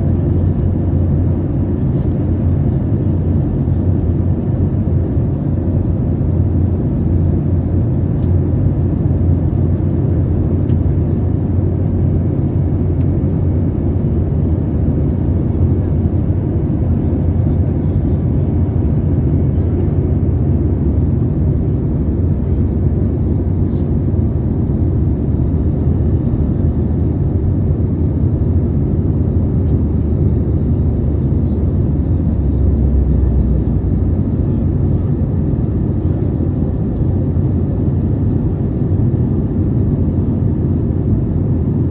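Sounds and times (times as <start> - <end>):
airliner cabin drone: 0.0 - 41.9.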